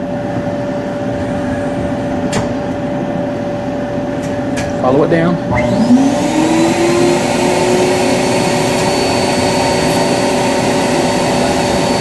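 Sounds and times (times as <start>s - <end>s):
vending machine motor whine: 0.0s - 12.0s.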